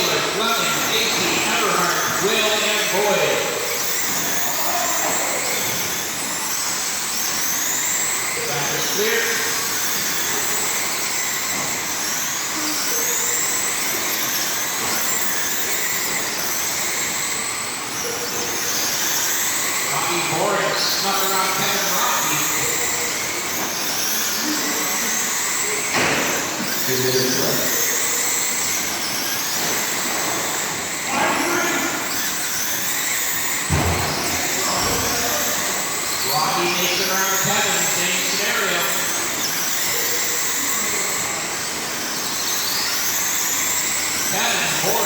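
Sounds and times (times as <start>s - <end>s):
toy car motors whining: 0.0s - 45.0s.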